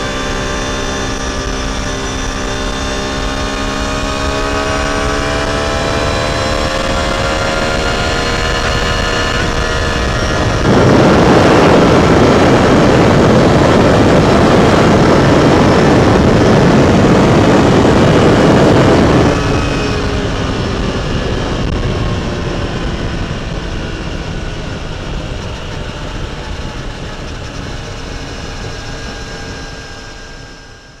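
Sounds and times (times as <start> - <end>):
motorcycle engine running: 0.0 - 31.0
rush of wind: 0.0 - 31.0.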